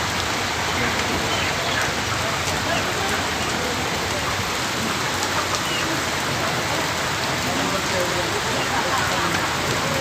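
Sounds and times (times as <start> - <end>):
rain on surfaces: 0.0 - 10.0.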